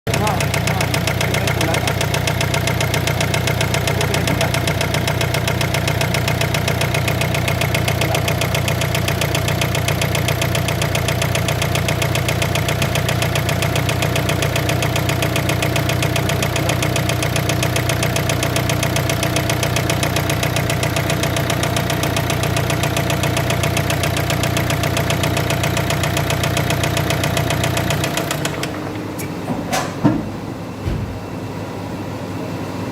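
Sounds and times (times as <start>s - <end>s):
car engine idling with knock: 0.1s - 31.5s.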